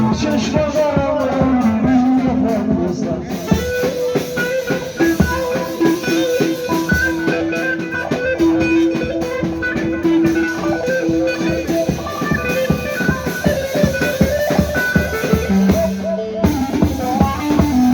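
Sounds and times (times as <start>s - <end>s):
drums: 0.0s - 17.9s
plucked string instrument: 3.4s - 17.9s.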